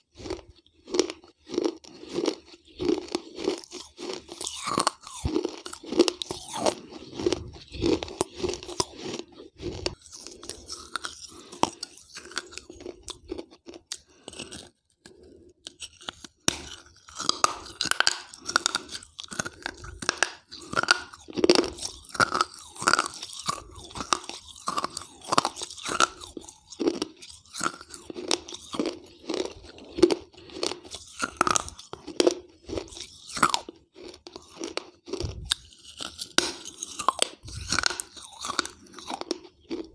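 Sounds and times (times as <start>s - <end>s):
crunching and chewing clay: 0.0s - 39.9s.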